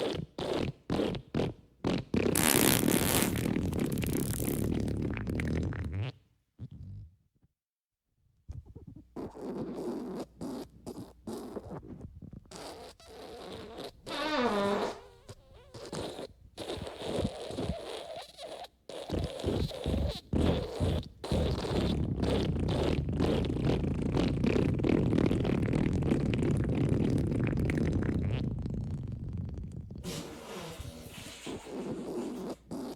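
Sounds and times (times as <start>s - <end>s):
fart sound effects: 0.0s - 6.9s, 8.6s - 32.9s.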